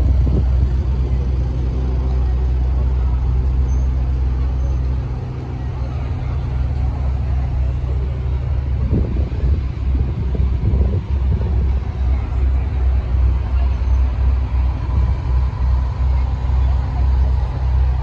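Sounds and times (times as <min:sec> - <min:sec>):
street traffic engines rumbling: 0:00.0 - 0:18.0.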